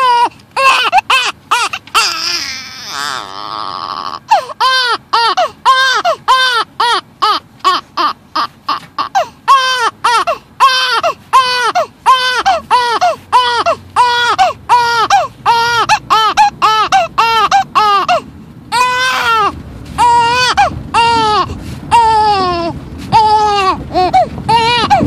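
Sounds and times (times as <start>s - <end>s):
infant crying: 0.0s - 25.0s.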